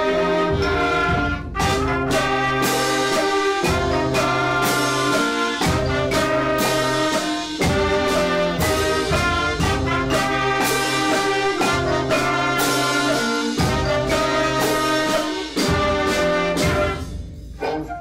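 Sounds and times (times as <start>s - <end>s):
concert band wind chords: 0.0s - 18.0s
drum strokes: 0.0s - 18.0s.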